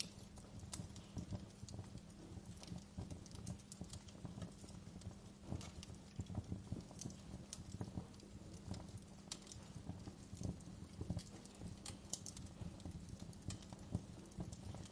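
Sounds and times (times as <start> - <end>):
low rumble of flame: 0.0 - 14.9
wood fire crackling and popping: 0.0 - 14.9.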